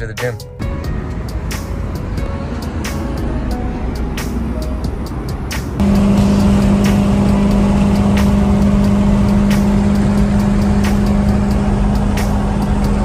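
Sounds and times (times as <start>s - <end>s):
car engine droning: 0.7s - 13.0s.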